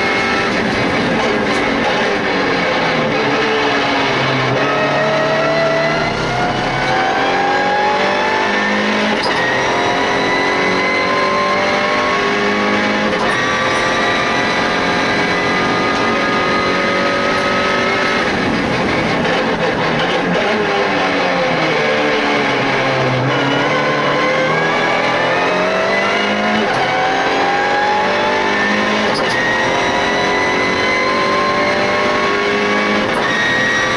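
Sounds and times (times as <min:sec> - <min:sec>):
race car engine accelerating: 0:00.0 - 0:33.9.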